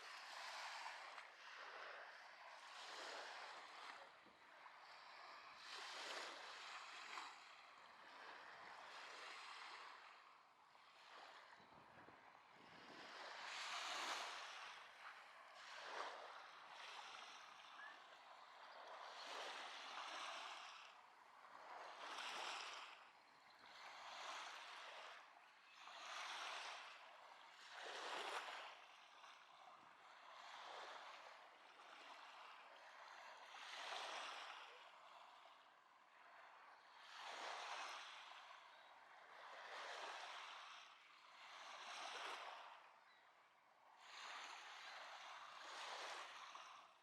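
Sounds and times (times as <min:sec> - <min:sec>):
small waves washing onto beach: 0:00.0 - 0:43.0, 0:43.9 - 0:47.0.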